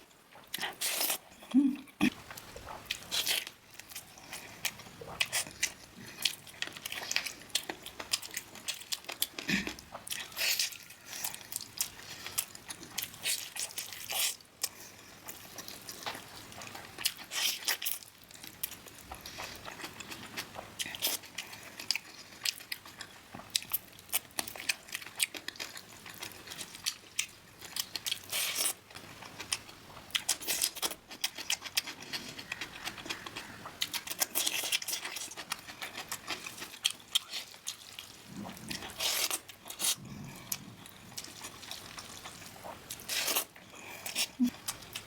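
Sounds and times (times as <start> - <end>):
chewing and biting: 2.0 - 45.0
crunching food: 2.1 - 45.0.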